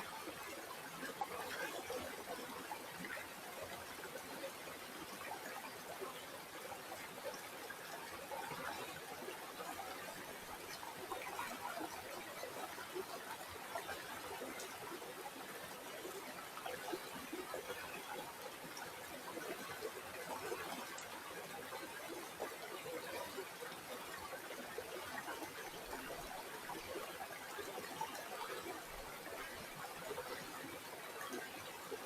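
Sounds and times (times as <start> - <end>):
stream trickling over stones: 0.2 - 32.0.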